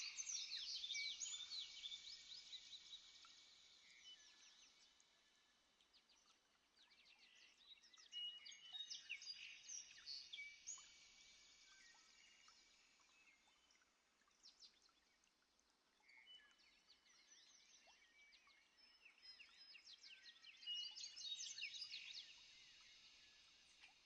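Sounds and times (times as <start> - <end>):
faint birdsong chirps and trills: 0.0 - 24.0.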